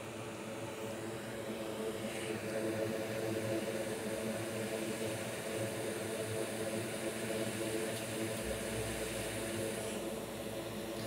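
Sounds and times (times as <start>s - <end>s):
mechanical whir of blowing air: 0.0s - 11.0s.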